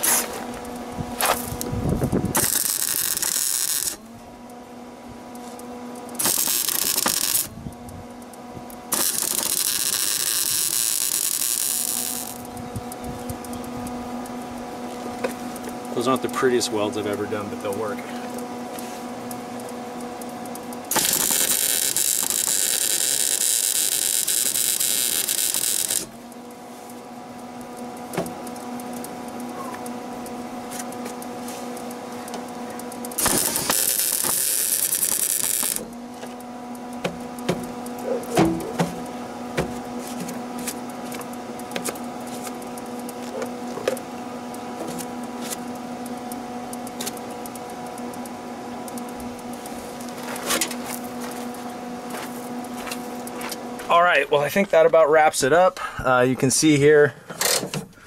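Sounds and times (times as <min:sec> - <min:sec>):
welding arc crackle and sizzle: 0:00.0 - 0:56.9
steady hum: 0:00.0 - 0:58.0.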